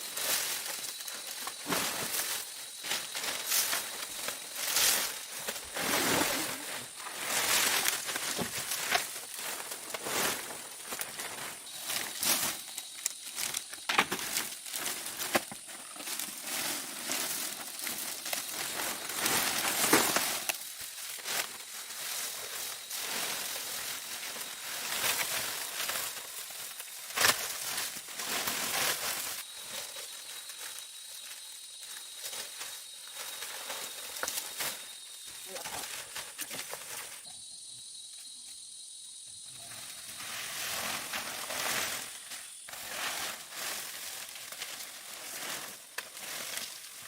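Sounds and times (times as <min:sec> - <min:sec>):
materials rustling and crinkling: 0:00.0 - 0:37.3, 0:39.7 - 0:47.0.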